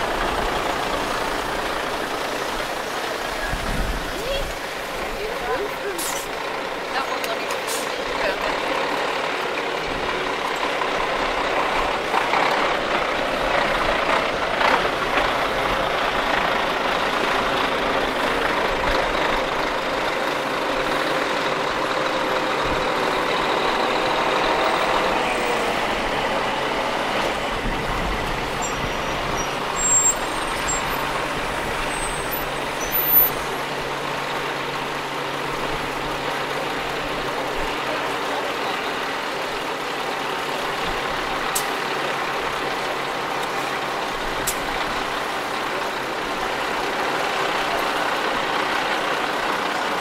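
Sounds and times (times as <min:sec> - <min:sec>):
diesel lorry engine running: 0:00.0 - 0:50.0.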